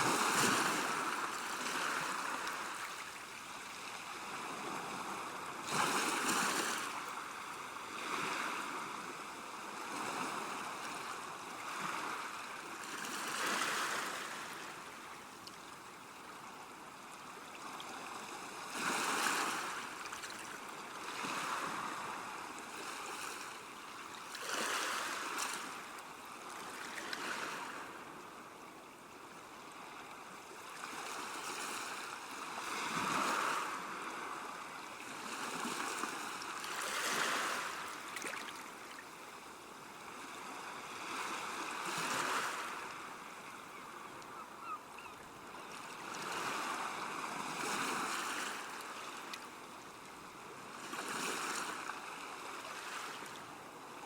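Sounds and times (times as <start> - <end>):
water lapping at river bank: 0.0 - 28.2, 29.6 - 54.0.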